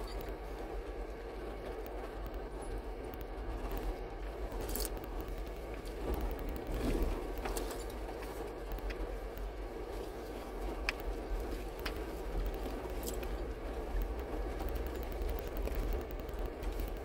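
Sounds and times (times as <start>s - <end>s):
engine rumble: 0.0s - 17.0s
small clicks and rattles: 0.0s - 17.0s.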